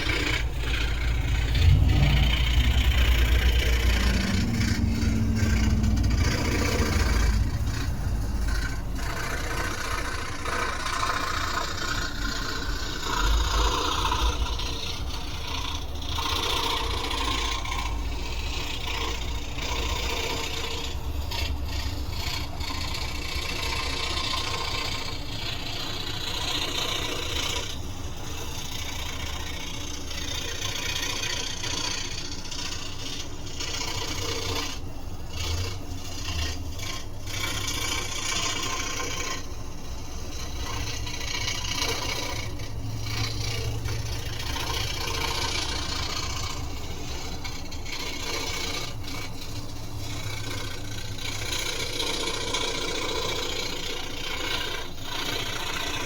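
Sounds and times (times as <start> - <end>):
scroll saw cutting wood: 0.0 - 56.0.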